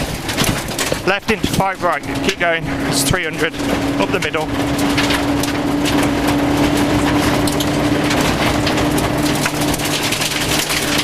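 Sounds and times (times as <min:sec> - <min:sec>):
stones rattling against underbody: 0:00.0 - 0:02.6, 0:03.2 - 0:11.0
car engine steady note: 0:00.0 - 0:11.0.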